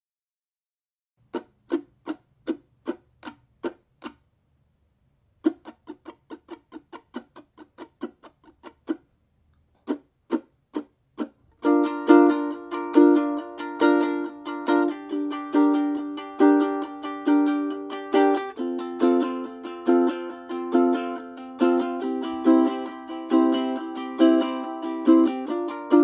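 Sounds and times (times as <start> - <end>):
ukulele strumming: 1.2 - 4.2, 5.4 - 9.1, 9.8 - 26.0.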